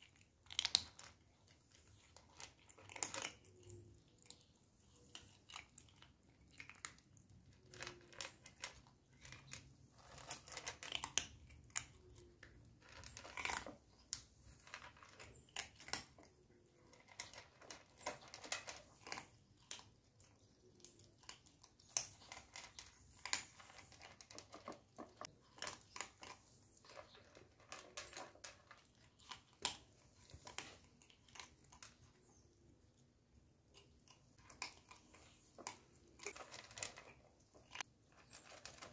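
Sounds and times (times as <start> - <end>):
kittens crunching dry kibble: 0.0 - 38.9.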